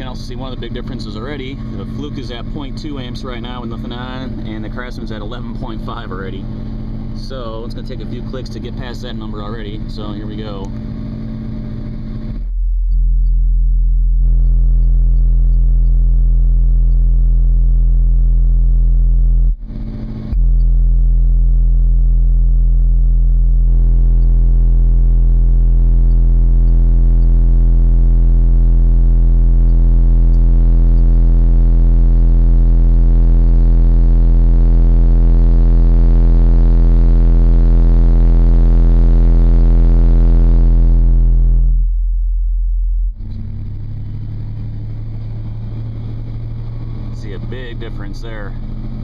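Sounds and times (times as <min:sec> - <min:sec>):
deep bass tone: 0:00.0 - 0:49.0.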